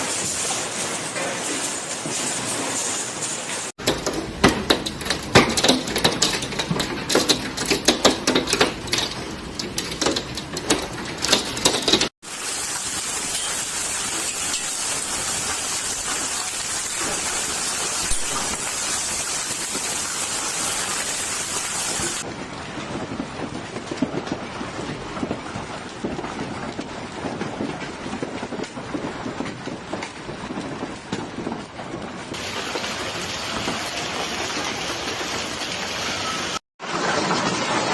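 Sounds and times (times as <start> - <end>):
heavy hail downpour hiss: 0.0 - 10.4, 11.3 - 26.2, 32.4 - 37.6
hailstones clattering: 0.0 - 37.9.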